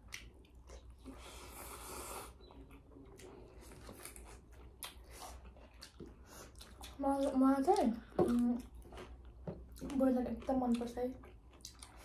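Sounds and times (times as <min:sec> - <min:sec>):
soft chewing and mouth clicks: 0:00.0 - 0:12.0.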